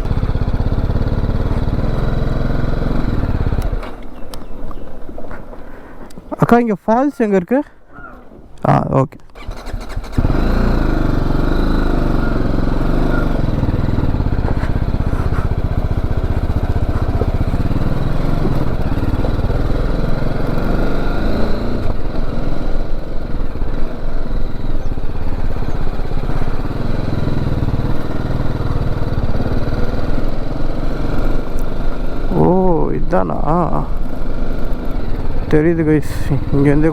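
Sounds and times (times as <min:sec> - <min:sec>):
motorcycle engine revving: 0:00.0 - 0:04.8, 0:09.4 - 0:36.9.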